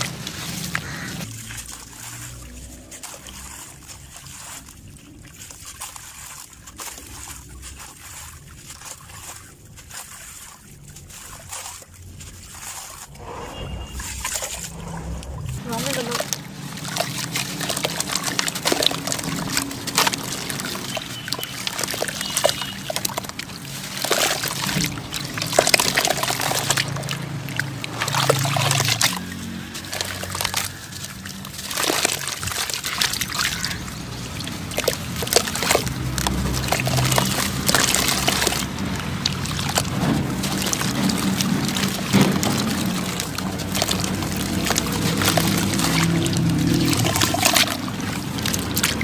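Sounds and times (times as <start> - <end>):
sandy clumps crumbling: 0.0 - 49.0
trickling grains: 0.0 - 49.0.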